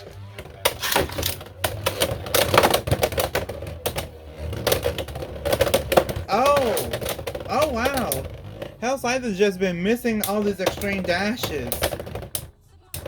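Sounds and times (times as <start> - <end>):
spinning tops clacking: 0.6 - 12.5.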